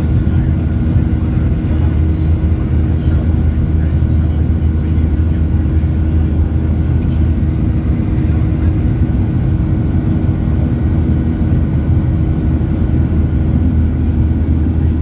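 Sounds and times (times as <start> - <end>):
airplane engines droning: 0.0 - 15.0
steady hums: 0.0 - 15.0.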